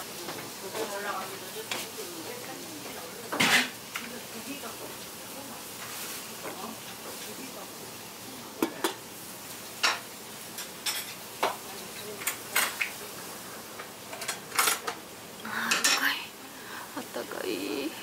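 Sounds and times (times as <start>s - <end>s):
restaurant background noise: 0.0s - 18.0s.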